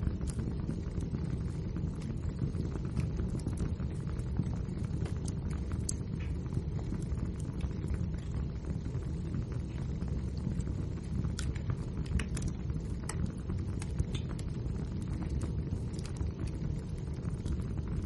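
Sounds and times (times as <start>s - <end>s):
burning logs popping and crackling: 0.0s - 18.0s
wood fire rumbling: 0.0s - 18.0s.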